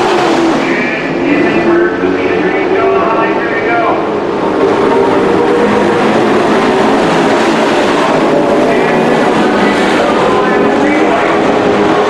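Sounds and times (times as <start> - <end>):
race truck engines droning: 0.0 - 12.0.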